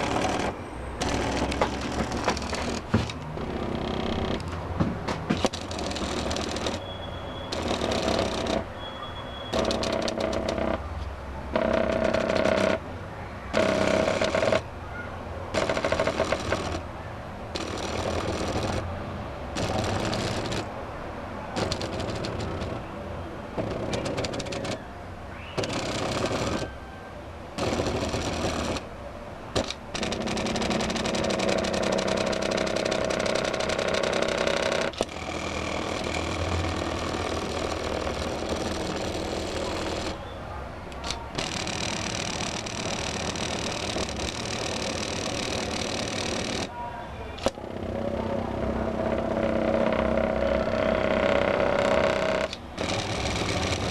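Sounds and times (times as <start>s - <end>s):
stepper motors buzzing: 0.0s - 4.6s, 5.2s - 8.8s, 9.4s - 10.9s, 11.5s - 12.9s, 13.5s - 14.7s, 15.5s - 16.9s, 17.5s - 20.8s, 21.6s - 26.8s, 27.6s - 28.9s, 29.6s - 40.3s, 41.0s - 46.7s, 47.4s - 53.9s.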